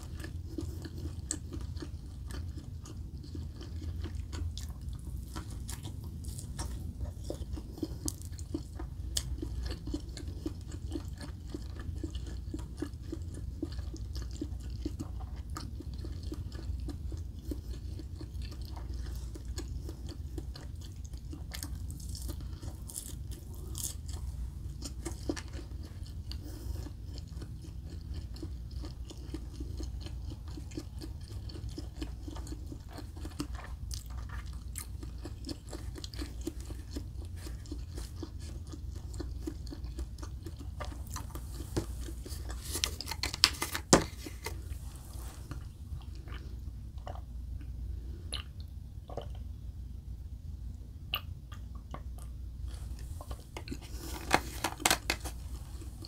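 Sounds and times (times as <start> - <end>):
wet chewing: 0.0 - 47.7, 51.1 - 56.0.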